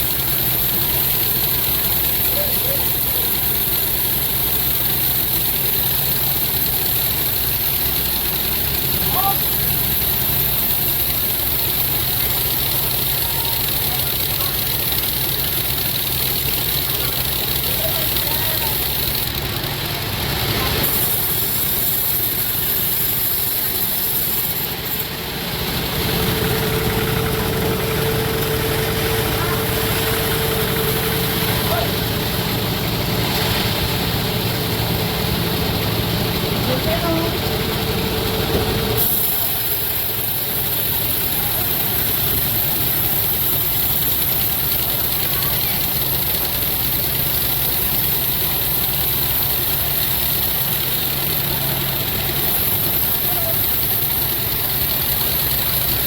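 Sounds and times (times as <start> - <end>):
sawmill machinery rumble and hiss: 0.0 - 56.0
steady whine: 0.0 - 56.0.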